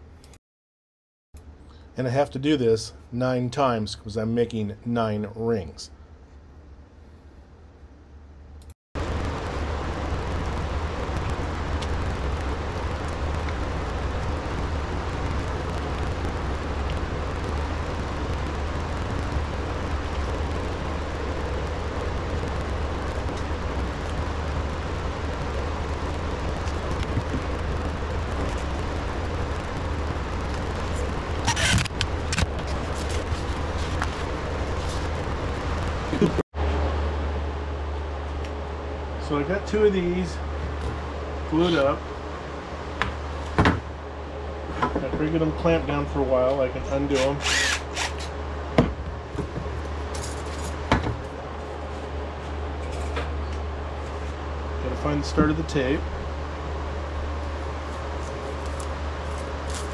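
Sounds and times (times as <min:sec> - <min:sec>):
machinery humming: 0:08.6 - 0:59.9.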